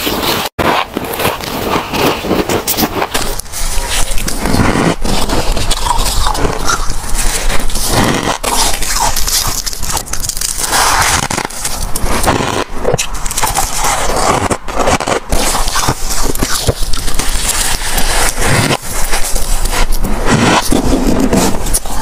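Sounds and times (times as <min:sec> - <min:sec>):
crunching frost and ice: 0:00.0 - 0:22.0.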